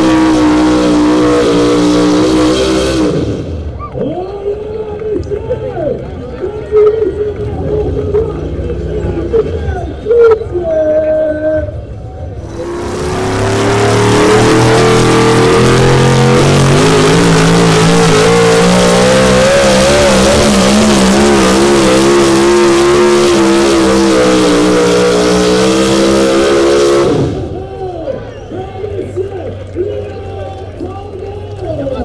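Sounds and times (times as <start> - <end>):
truck engine at full throttle: 0.0 - 10.6, 11.6 - 32.0.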